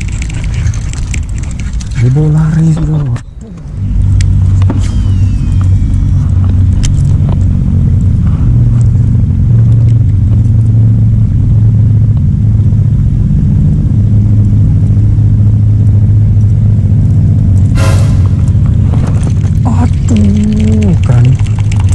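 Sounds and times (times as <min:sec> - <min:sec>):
engine idling drone: 0:00.0 - 0:21.9.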